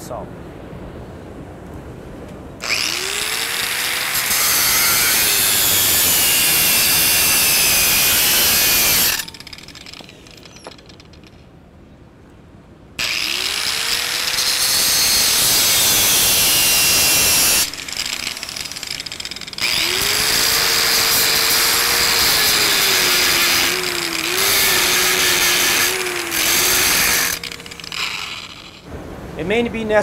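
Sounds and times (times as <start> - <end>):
angle grinder grinding steel: 2.6 - 11.3, 13.0 - 28.9.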